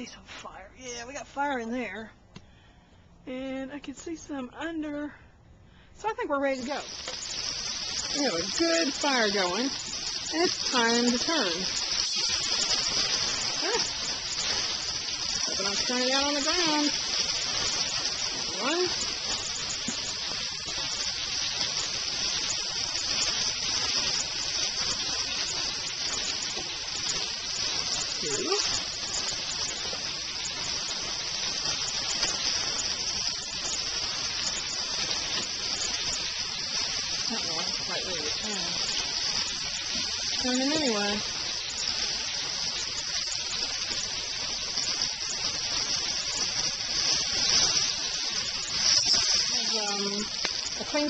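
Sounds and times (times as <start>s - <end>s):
meat sizzling in a pan: 6.4s - 51.0s.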